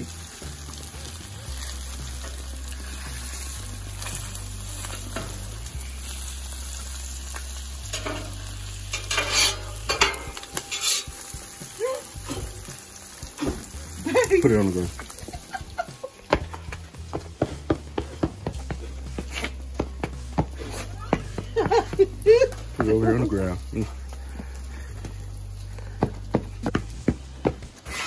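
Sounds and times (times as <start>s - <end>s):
eggs sizzling in a pan: 0.0s - 28.0s.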